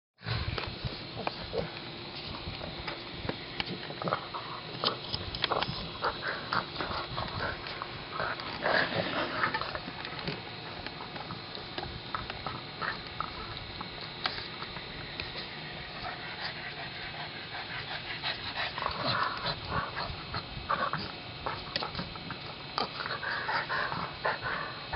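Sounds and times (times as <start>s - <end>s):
dogs playing noisily: 0.2s - 24.9s.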